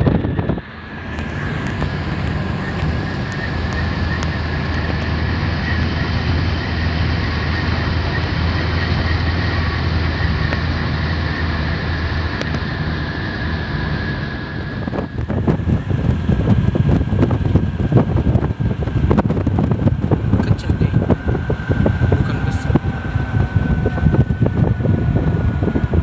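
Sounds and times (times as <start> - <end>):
car road and engine drone: 0.0 - 26.0
faint whine: 0.0 - 26.0.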